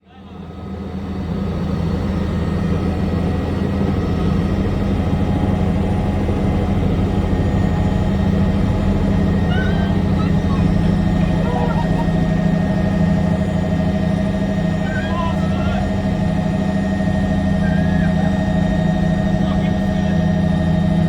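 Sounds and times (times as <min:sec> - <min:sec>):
helicopter rotor drone: 0:00.0 - 0:21.0.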